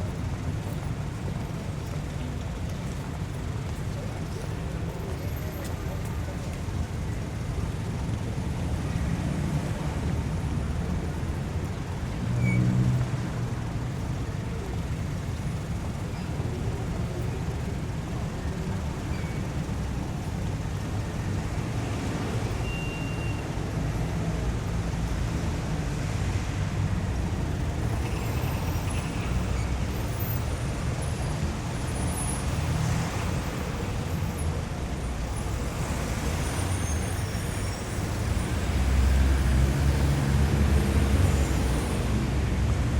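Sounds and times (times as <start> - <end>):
passing cars rumbling: 7.3 - 42.9.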